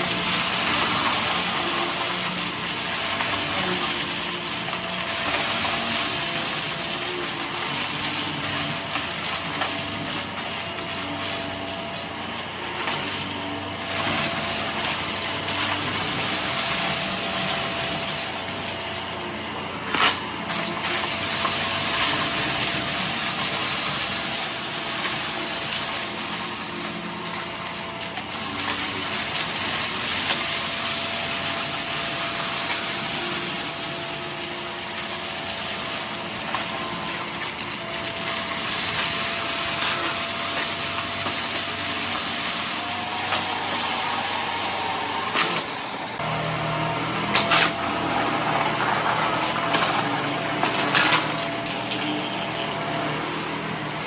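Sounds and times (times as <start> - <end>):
debris clicking in vacuum: 0.0 - 46.3, 46.9 - 52.8
vacuum cleaner running: 0.0 - 54.0.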